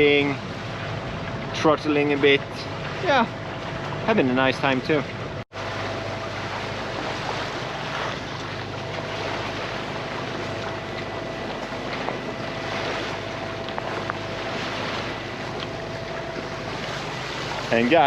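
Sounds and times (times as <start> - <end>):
water rushing along hull: 0.0 - 18.0.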